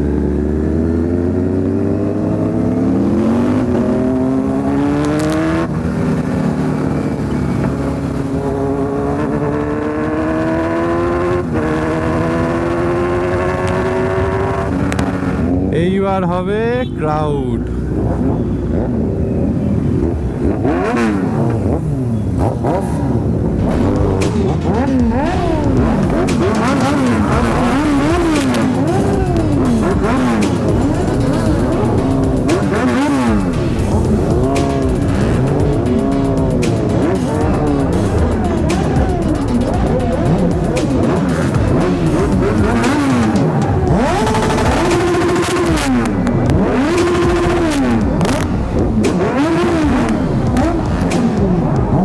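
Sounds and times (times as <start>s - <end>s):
exhaust cracks: 0.0s - 52.0s
motorcycle engines revving: 0.0s - 52.0s.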